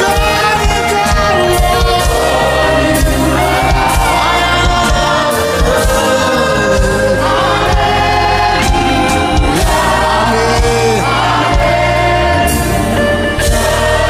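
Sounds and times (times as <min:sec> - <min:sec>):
choir singing: 0:00.0 - 0:14.0
keyboard-led band: 0:00.0 - 0:14.0.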